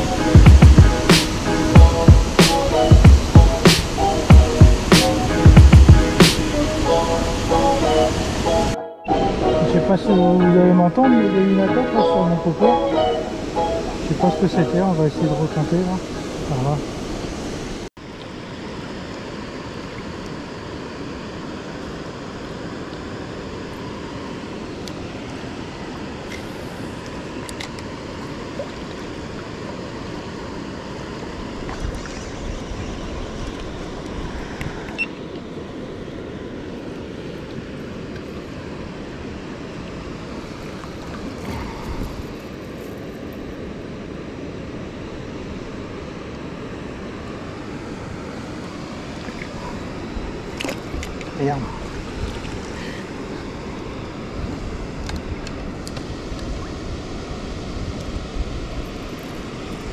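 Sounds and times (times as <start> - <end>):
water rushing over weir: 0.0 - 42.7, 43.4 - 59.9.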